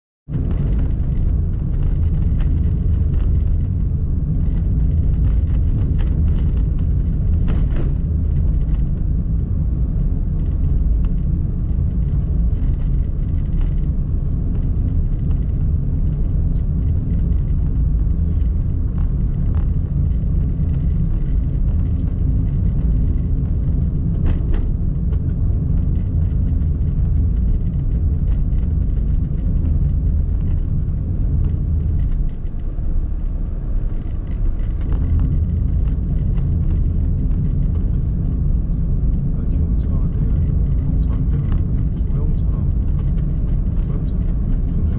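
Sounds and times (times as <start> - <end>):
car driving rumble: 0.3 - 44.9.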